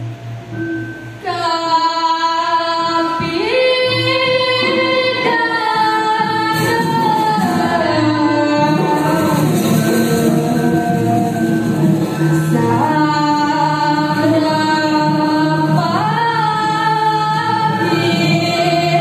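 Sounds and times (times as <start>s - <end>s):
woman singing: 1.2s - 19.0s.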